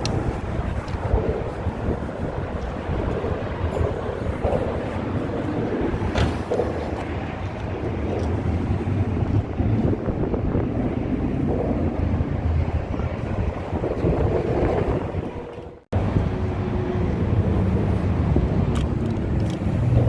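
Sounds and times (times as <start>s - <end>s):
low rumble of vehicles: 0.0s - 20.0s
wind buffeting microphone: 0.0s - 20.0s.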